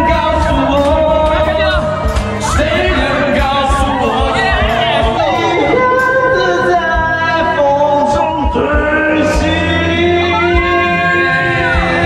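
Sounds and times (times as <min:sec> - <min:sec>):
man singing into a microphone: 0:00.0 - 0:12.0
pop backing track: 0:00.0 - 0:12.0.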